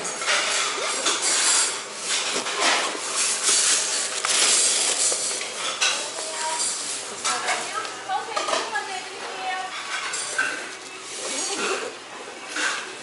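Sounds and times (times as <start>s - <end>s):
dishes and cutlery clattering: 0.0s - 7.7s, 8.4s - 8.8s, 9.6s - 13.0s.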